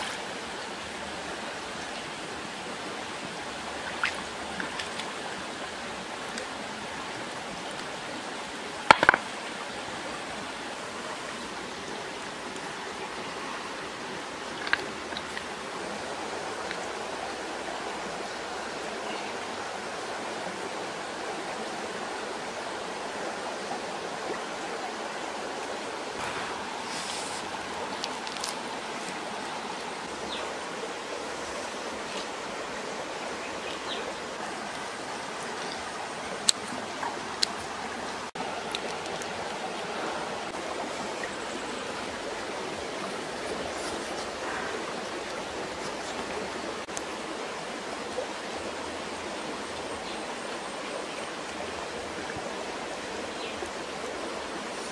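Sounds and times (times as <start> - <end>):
stream running over rocks: 0.0 - 54.9.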